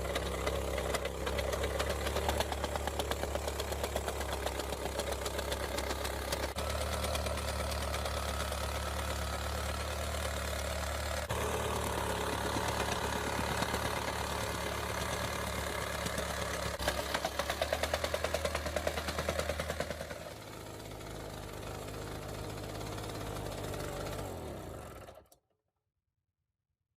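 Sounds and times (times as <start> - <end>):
petrol engine running: 0.0 - 25.3.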